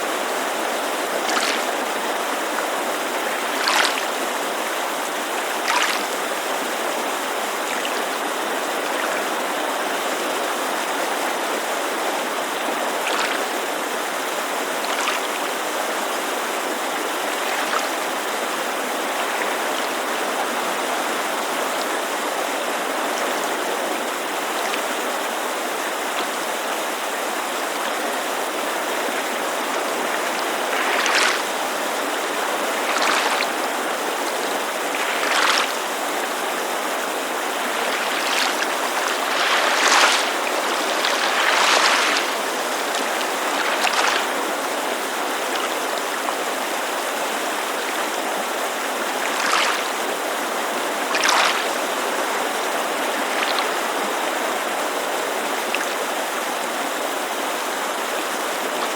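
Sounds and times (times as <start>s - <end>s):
small waves lapping: 0.0s - 56.8s
creek rushing: 0.0s - 58.9s.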